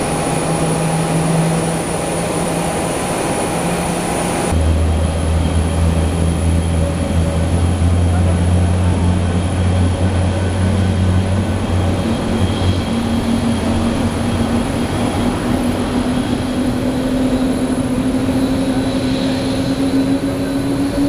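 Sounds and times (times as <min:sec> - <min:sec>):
bus diesel engine drone: 0:00.0 - 0:21.0
loud machinery noise: 0:00.0 - 0:21.0.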